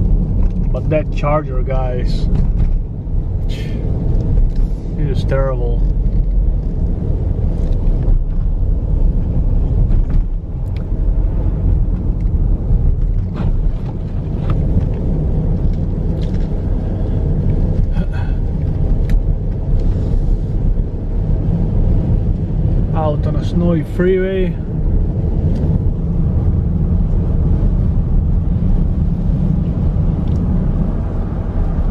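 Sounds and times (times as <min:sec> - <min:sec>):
car engine and tyres rumbling: 0:00.0 - 0:31.9.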